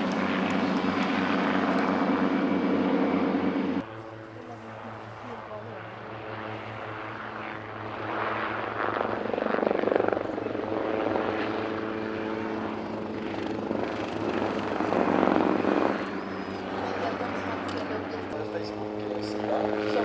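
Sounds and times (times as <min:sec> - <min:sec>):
helicopters flying overhead: 0:00.0 - 0:20.0.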